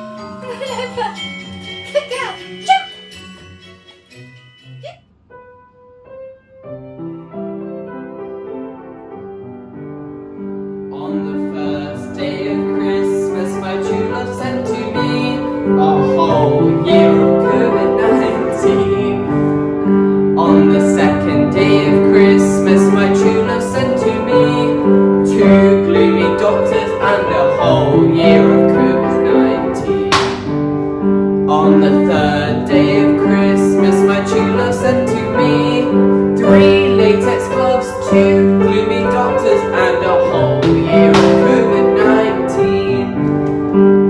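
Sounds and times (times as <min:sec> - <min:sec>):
upright piano music: 0:00.0 - 0:44.0.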